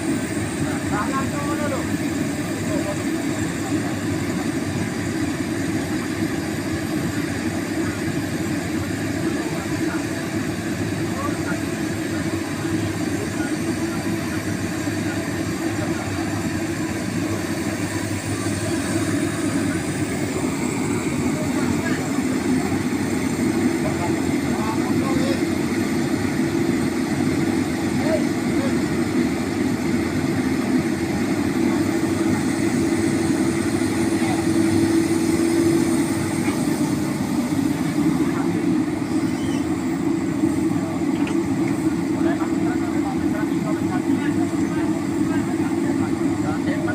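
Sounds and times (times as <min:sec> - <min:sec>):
diesel engine rumbling: 0:00.0 - 0:46.9.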